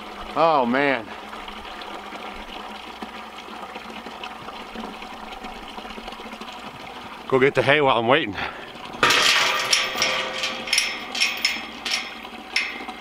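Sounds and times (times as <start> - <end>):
water running into plastic bucket: 0.0 - 13.0.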